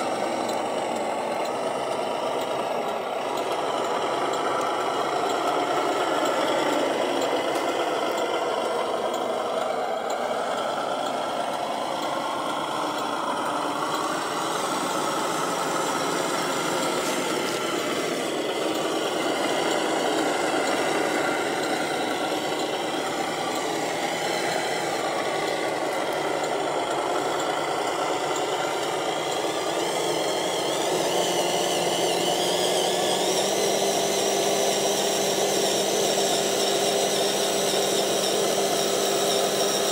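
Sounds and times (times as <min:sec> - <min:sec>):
toy truck motor drone: 0:00.0 - 0:39.9.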